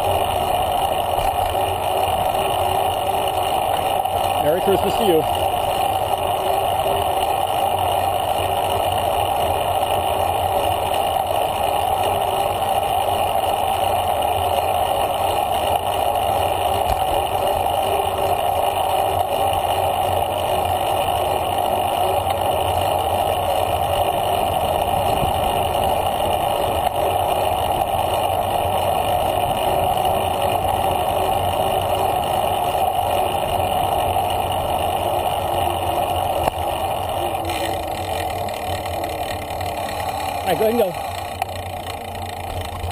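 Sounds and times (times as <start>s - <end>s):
bicycle tyres rolling on pavement: 0.0s - 42.9s.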